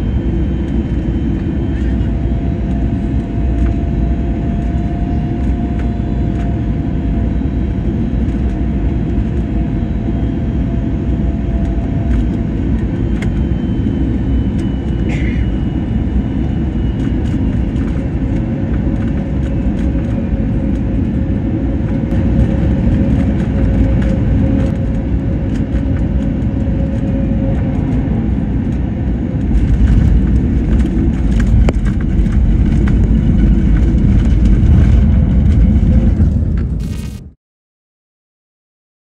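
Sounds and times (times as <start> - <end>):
airliner rumble on runway: 0.0 - 37.4.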